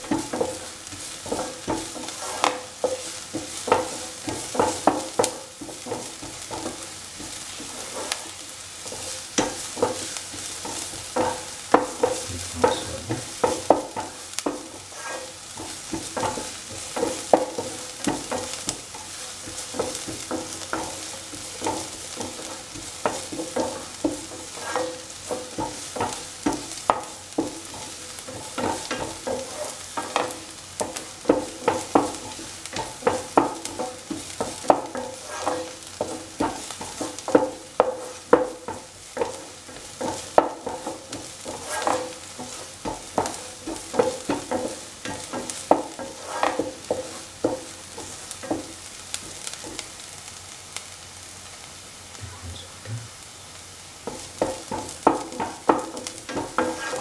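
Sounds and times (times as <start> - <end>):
spatula scraping a pan: 0.0 - 49.8, 54.0 - 57.0
shallots sizzling in hot oil: 0.0 - 57.0.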